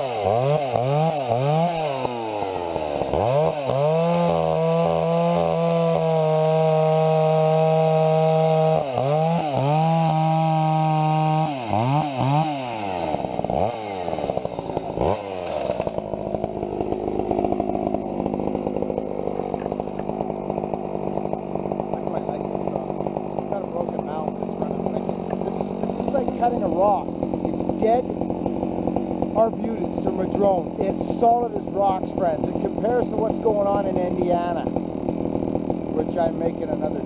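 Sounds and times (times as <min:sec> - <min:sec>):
two-stroke chainsaw revving: 0:00.0 - 0:37.0.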